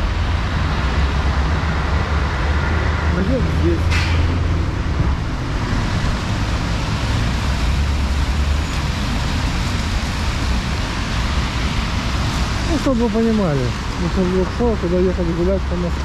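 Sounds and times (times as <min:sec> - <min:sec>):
traffic on a wet road: 0:00.0 - 0:16.0.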